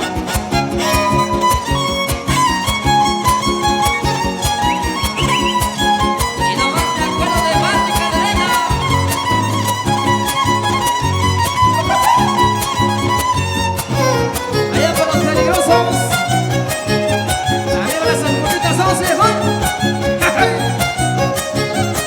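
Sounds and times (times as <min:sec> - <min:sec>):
fast strummed guitars: 0:00.0 - 0:22.0
violin melody with slides: 0:00.0 - 0:22.0.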